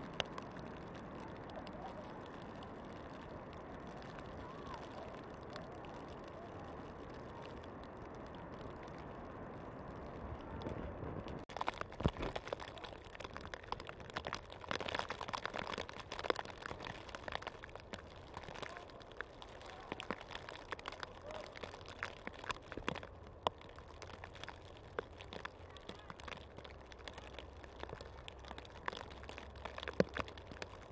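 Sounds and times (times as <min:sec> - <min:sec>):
snow ticking on branches: 0:00.0 - 0:30.9.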